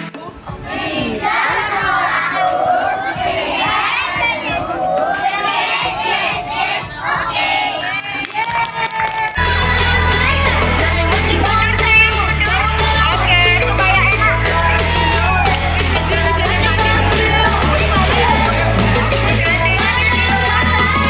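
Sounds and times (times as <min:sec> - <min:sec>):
pop music: 0:00.0 - 0:21.0
children shouting and cheering: 0:00.3 - 0:21.0.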